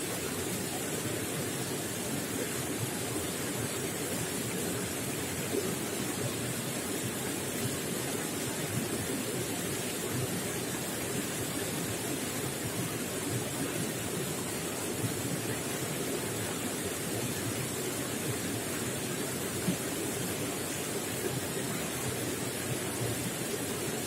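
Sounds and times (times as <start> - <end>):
running water gurgling: 0.0 - 24.0.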